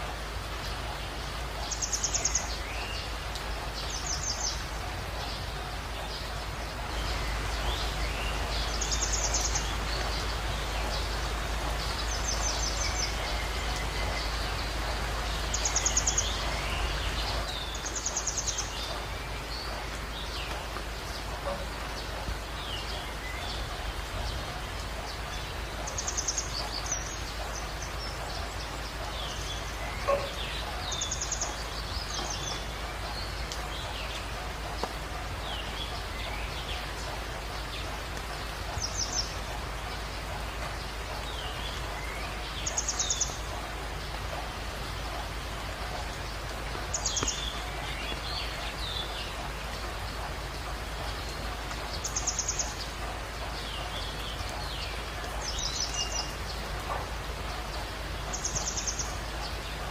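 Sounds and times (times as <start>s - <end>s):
birds chirping: 0.0s - 59.9s
steady rain hiss: 0.0s - 59.9s.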